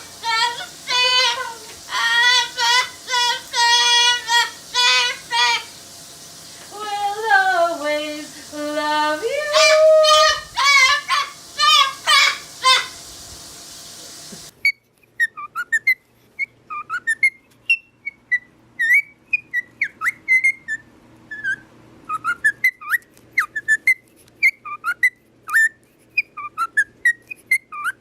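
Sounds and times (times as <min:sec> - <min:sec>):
parrot chirping and whistling: 0:00.0 - 0:06.1, 0:09.3 - 0:28.0.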